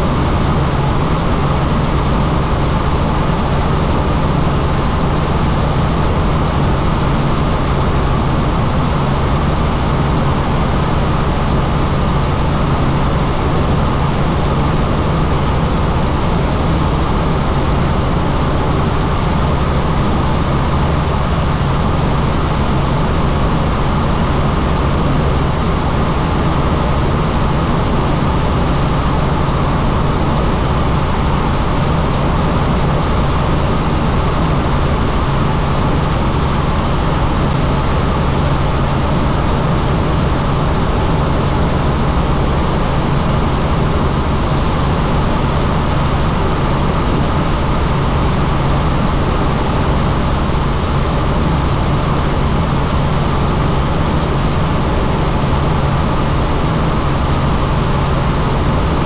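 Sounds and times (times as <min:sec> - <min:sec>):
helicopter rotor drone: 0:00.0 - 0:59.0.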